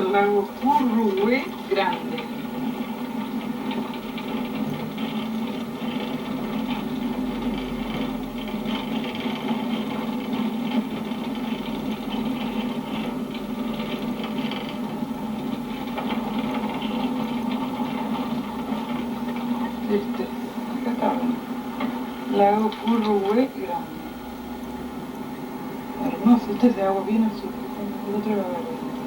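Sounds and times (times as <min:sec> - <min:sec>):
small clicks and rattles: 0:00.0 - 0:23.8.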